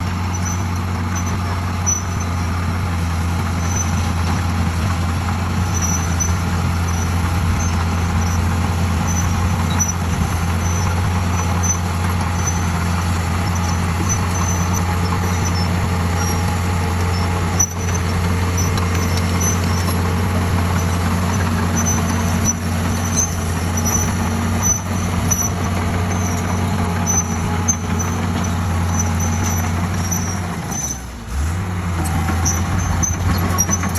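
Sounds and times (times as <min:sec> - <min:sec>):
bulldozer diesel engine: 0:00.0 - 0:33.9.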